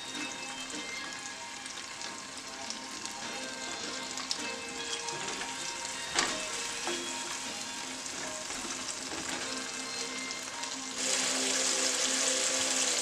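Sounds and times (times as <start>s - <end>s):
shrimp sizzling in oil: 0.0s - 13.0s.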